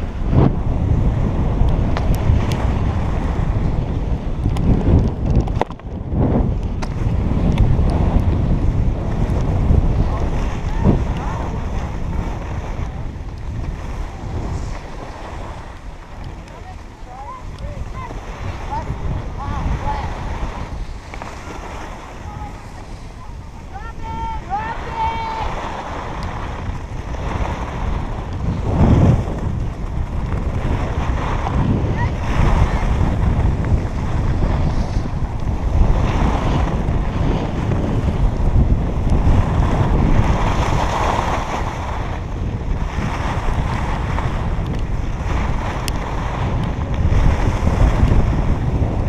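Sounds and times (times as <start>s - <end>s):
wind rumbling on microphone: 0.0s - 49.0s
snow scraping under rider: 6.1s - 49.0s.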